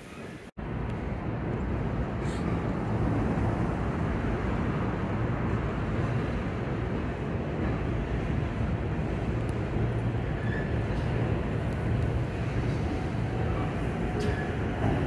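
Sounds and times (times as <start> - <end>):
distant electric train rumbling: 0.0 - 15.0
urban background noise: 0.0 - 15.0.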